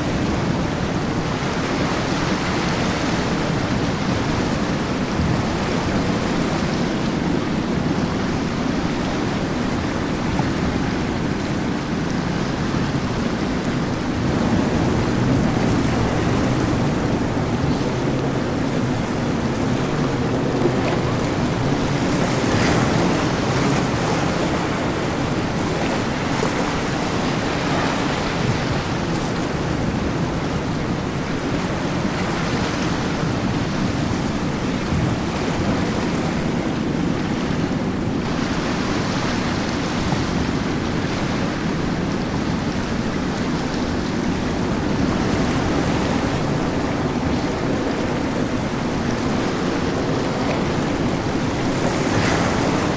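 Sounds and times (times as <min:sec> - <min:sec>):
outboard engines humming: 0:00.0 - 0:52.9
waves rushing: 0:00.0 - 0:52.9
wind buffeting microphone: 0:00.0 - 0:52.9.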